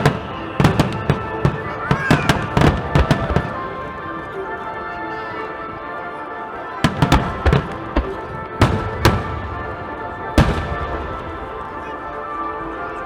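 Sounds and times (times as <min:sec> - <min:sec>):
fireworks bangs: 0:00.0 - 0:04.8, 0:06.8 - 0:12.7
background music: 0:00.0 - 0:13.0.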